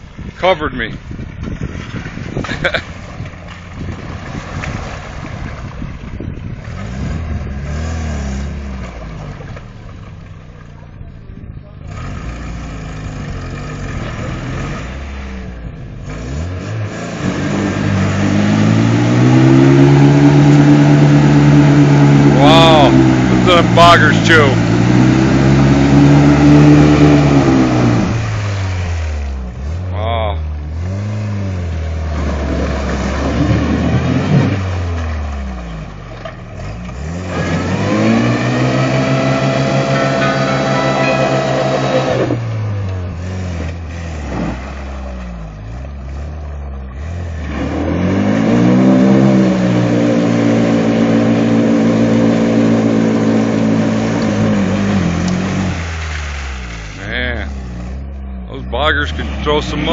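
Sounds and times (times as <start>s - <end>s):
tires spinning in mud: 0.0s - 59.9s
engine revving hard: 6.7s - 9.0s, 11.8s - 35.0s, 36.6s - 45.5s, 46.2s - 59.9s.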